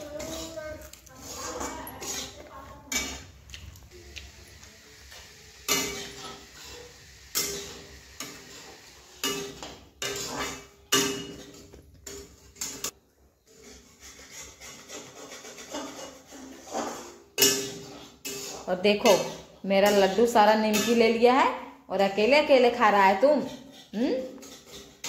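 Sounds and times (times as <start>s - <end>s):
metal spatula scraping a steel pan: 0.0s - 3.3s, 5.6s - 21.2s, 22.8s - 25.0s.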